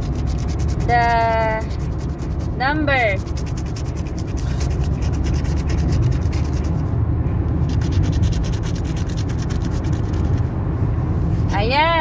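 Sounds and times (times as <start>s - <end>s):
scratch-off ticket being scratched: 0.0s - 6.9s, 7.6s - 10.5s
car rumble: 0.0s - 12.0s.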